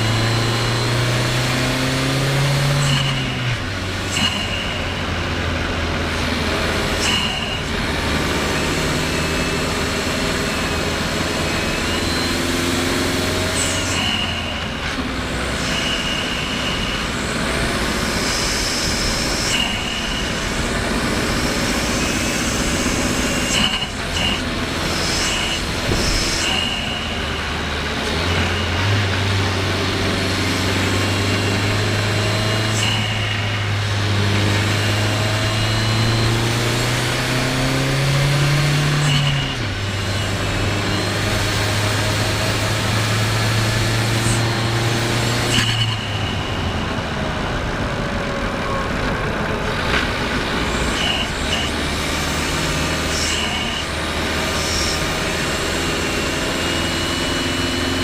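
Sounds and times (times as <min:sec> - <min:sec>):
car engine pulling under load: 0:00.0 - 0:58.0.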